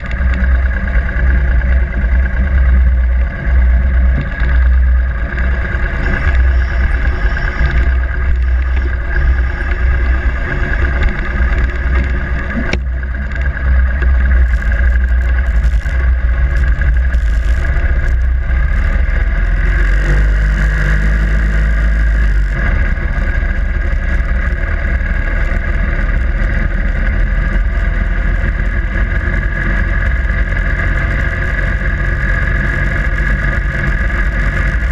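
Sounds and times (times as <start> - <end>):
motorcycle engine rumbling: 0.0 - 34.9.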